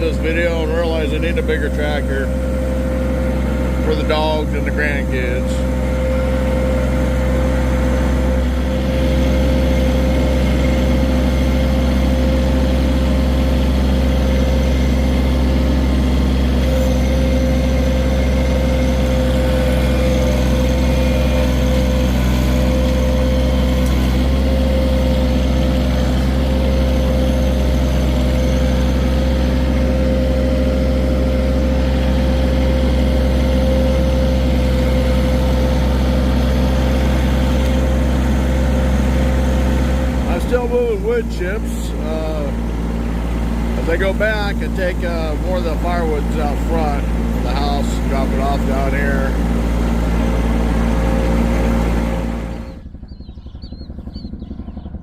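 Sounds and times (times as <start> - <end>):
constant whine: 0.0 - 55.0
tractor diesel engine running: 0.0 - 55.0.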